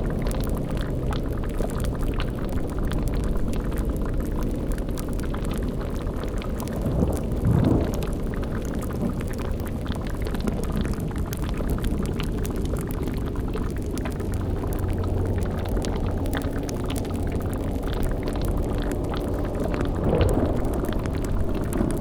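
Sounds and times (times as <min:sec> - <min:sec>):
cauldron bubbling and crackling: 0:00.0 - 0:22.0
low rumbling drone: 0:00.0 - 0:22.0.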